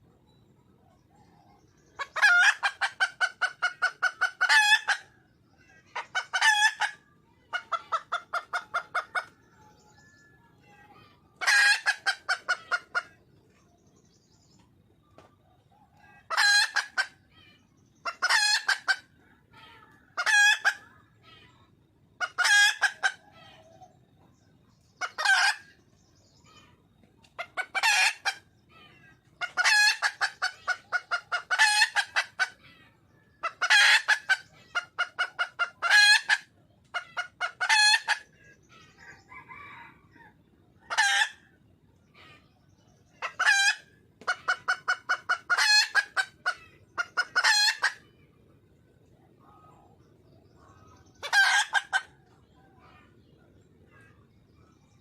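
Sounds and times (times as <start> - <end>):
hen clucking: 0.0 - 54.9.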